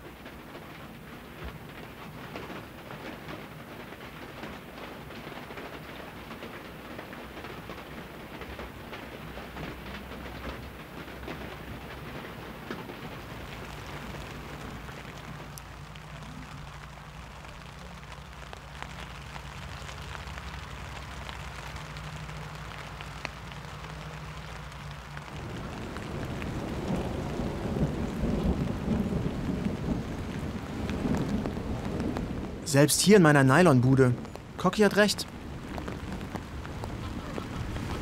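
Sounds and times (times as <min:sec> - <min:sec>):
rain pattering on a tent: 0:00.0 - 0:38.0.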